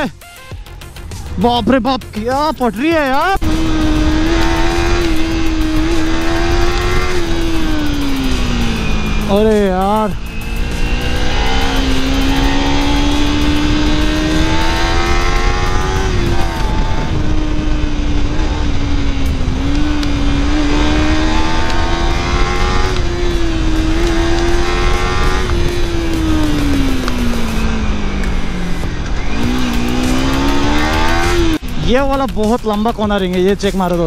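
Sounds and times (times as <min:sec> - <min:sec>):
wind noise: 0:02.9 - 0:32.4.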